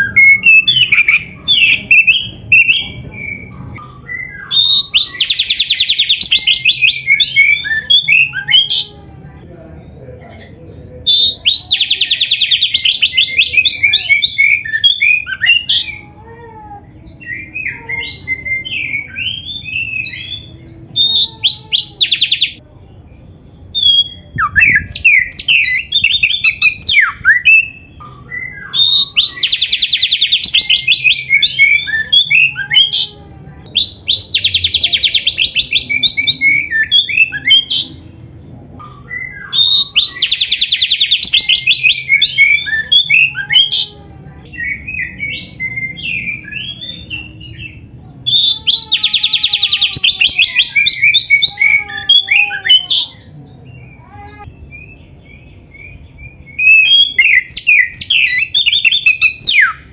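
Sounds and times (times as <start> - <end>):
songbird singing trills and whistles: 0.0 - 9.2, 10.5 - 16.0, 16.9 - 38.1, 38.8 - 59.9.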